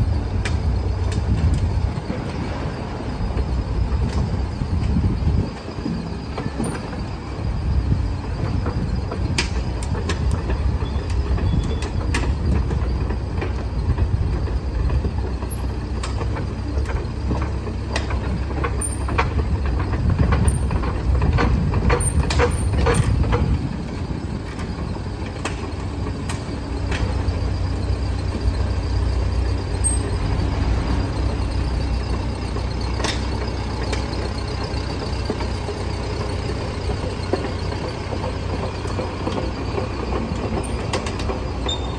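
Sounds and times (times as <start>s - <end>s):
excavator diesel engine rumbling: 0.0s - 41.9s.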